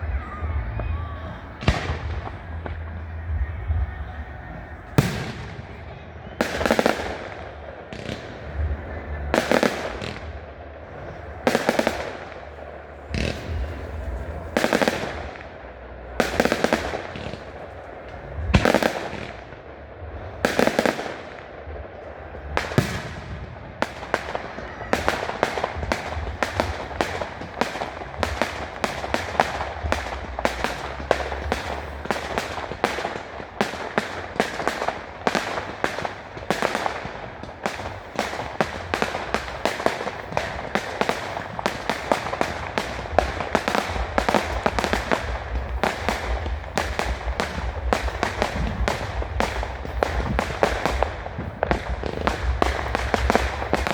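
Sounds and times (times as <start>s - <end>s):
crackling firework bursts: 0.0s - 53.9s
fireworks bangs: 0.0s - 53.9s.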